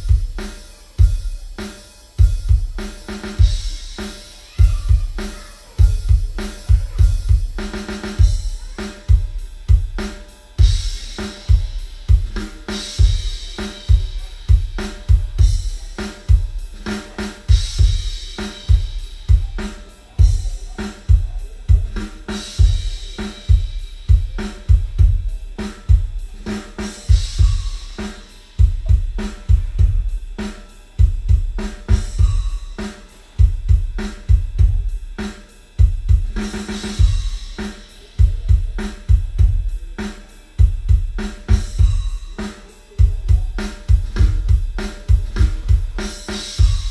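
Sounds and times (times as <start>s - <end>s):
drum-heavy music: 0.0s - 46.9s.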